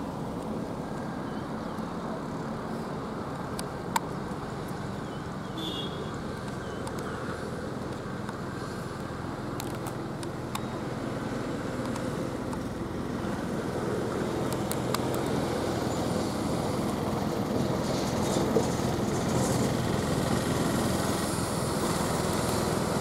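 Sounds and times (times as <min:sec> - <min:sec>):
diesel trucks engine hum: 0:00.0 - 0:23.0.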